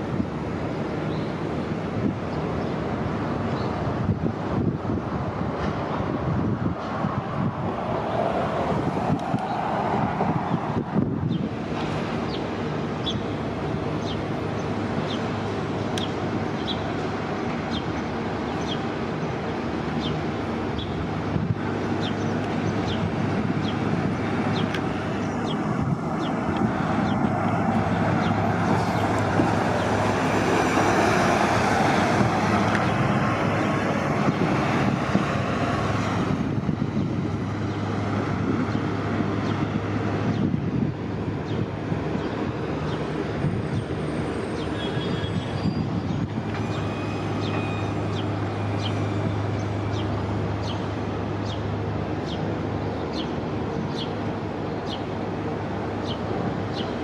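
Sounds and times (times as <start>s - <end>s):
bus engines humming: 0.0s - 57.0s
bus moving off: 0.0s - 57.0s.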